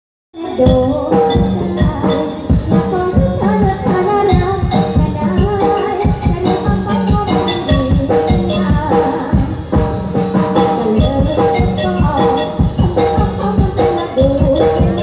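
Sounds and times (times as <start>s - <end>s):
drums and percussion beat: 0.4s - 15.0s
ensemble playing melody: 0.8s - 15.0s.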